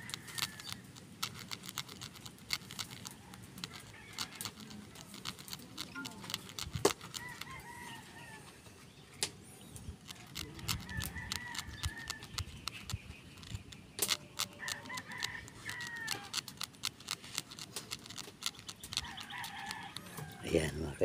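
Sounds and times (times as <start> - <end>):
small sharp clicks: 0.0 - 7.8, 10.0 - 20.4
chickens clucking: 2.8 - 21.0.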